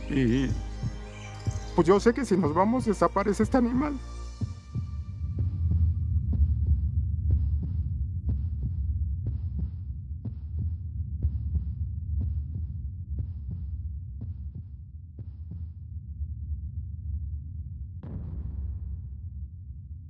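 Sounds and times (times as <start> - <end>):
heartbeat-like double beat: 0.0 - 16.4.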